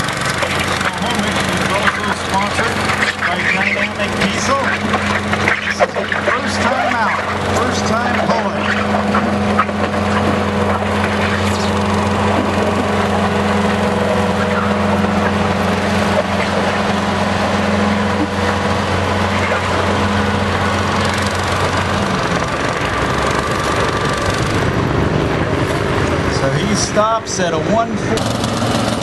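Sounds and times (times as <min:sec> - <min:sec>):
farm tractor engine running: 0:00.0 - 0:29.0
lawn tractor engine running hard: 0:00.0 - 0:29.0.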